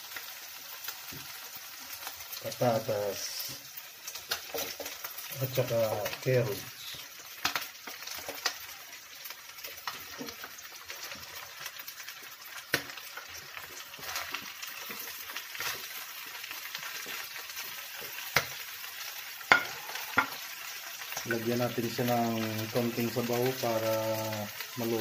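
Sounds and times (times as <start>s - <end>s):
food sizzling in frying pan: 0.0s - 25.0s.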